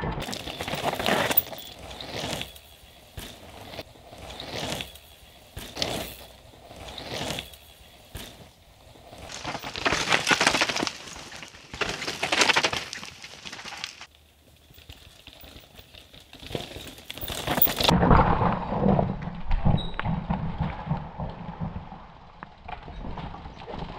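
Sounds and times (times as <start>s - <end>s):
bike rumbling and rattling over rocks: 0.0s - 23.9s
bike tyres crunching and skidding on dirt: 0.0s - 23.9s.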